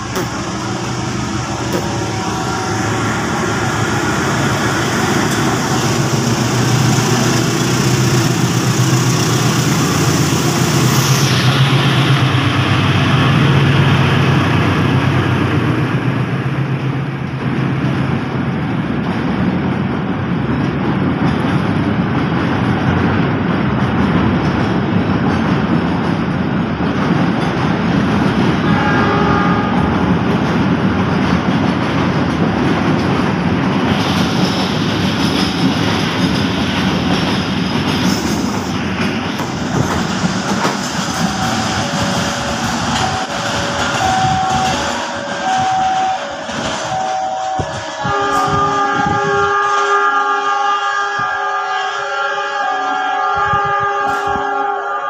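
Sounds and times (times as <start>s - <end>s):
locomotive engine hum: 0.0s - 50.4s.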